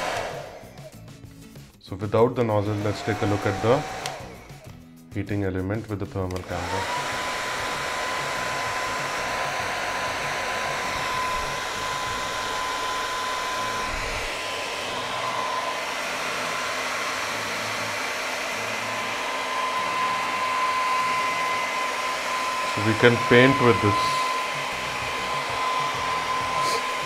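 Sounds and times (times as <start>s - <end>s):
hair dryer air rush: 0.0s - 1.0s, 2.4s - 4.8s, 6.2s - 27.0s.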